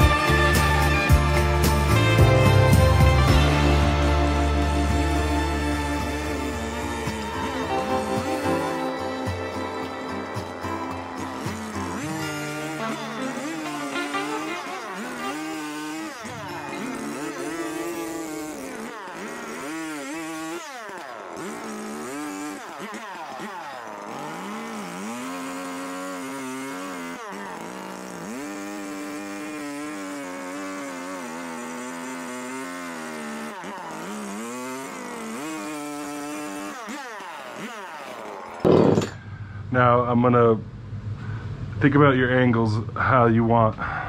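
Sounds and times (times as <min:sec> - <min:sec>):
chainsaw cutting wood: 0:00.0 - 0:39.3.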